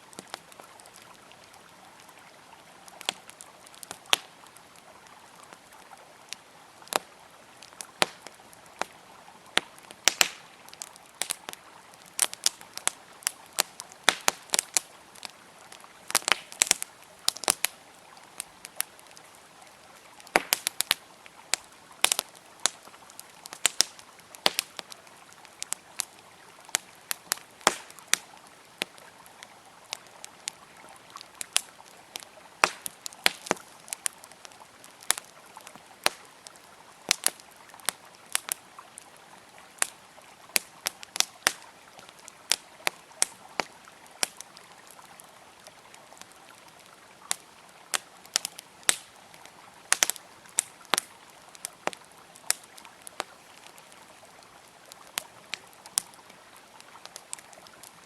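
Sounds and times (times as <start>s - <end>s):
campfire crackling and popping: 0.0s - 58.0s
river flowing: 0.0s - 58.0s.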